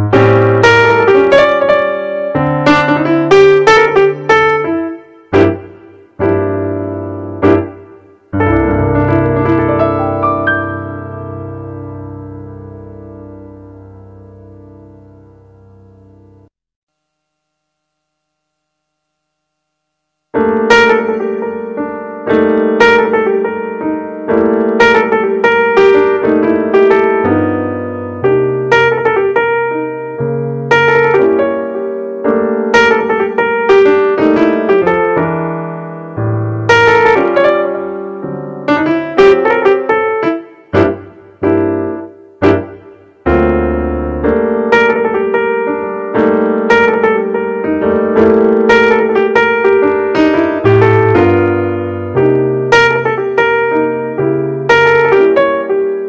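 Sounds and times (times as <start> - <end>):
piano melody over chords: 0.0 - 16.5, 20.3 - 56.0.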